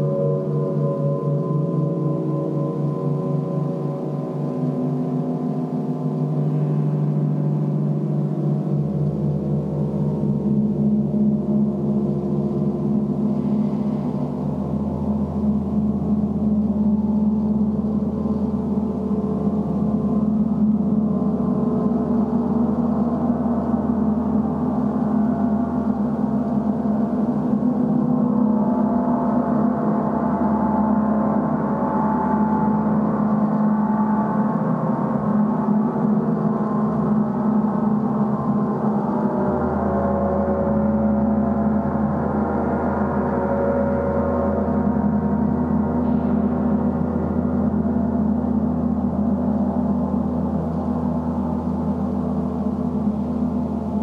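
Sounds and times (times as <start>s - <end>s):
deep steady hum: 0.0s - 54.0s.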